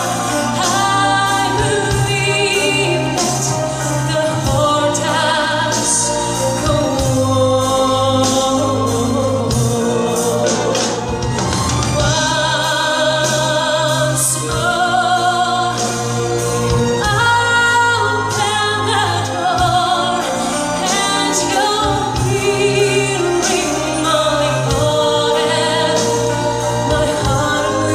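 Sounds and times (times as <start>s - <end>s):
orchestral music: 0.0s - 27.9s.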